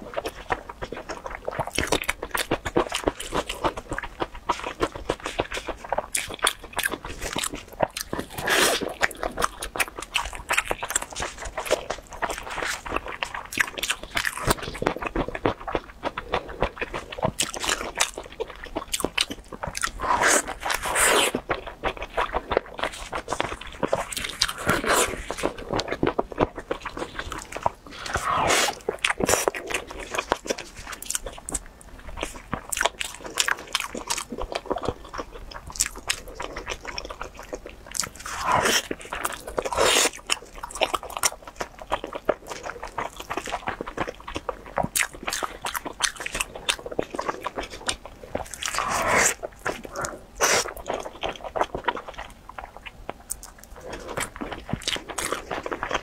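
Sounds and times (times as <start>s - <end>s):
crunchy chewing and biting: 0.0s - 56.0s.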